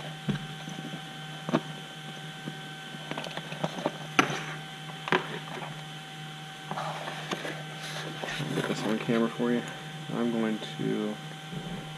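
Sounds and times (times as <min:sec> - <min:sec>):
steady electrical hum: 0:00.0 - 0:11.9.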